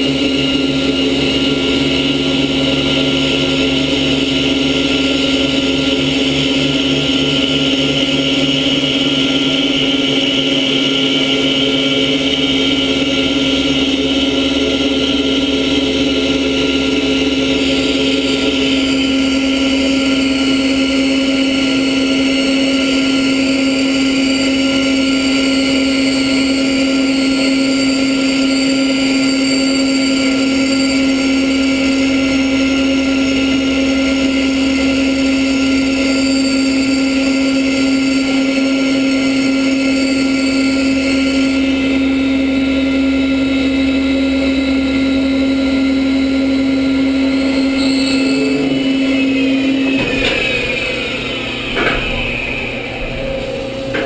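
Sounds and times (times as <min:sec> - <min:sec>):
drilling machine drone: 0:00.0 - 0:54.0.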